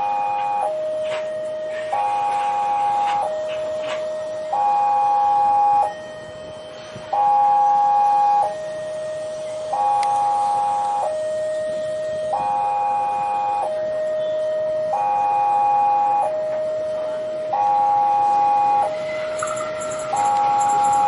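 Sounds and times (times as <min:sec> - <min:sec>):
electronic two-tone alarm: 0:00.0 - 0:21.0.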